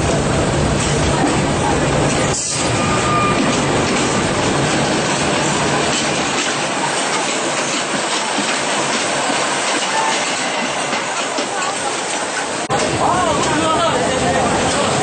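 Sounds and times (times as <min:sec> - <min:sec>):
train wheels rattling on rails: 0:00.0 - 0:15.0.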